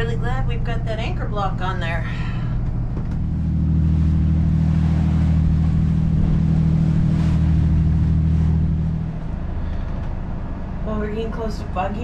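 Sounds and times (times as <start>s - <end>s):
diesel engine droning: 0.0s - 12.0s
water rushing against hull: 0.0s - 12.0s.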